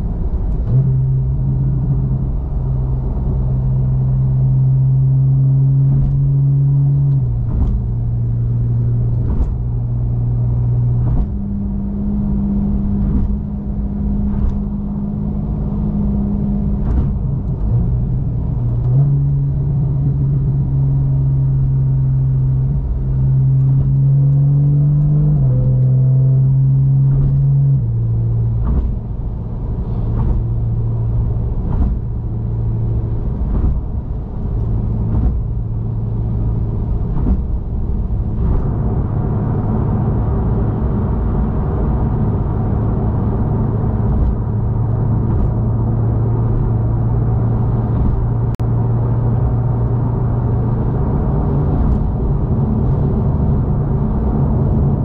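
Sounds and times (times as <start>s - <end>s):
car exhaust droning while cruising: 0.0s - 55.0s.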